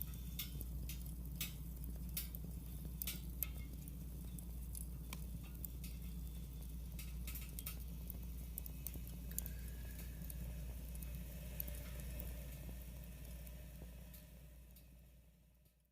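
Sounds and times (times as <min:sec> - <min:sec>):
wood fire crackling: 0:00.0 - 0:15.8.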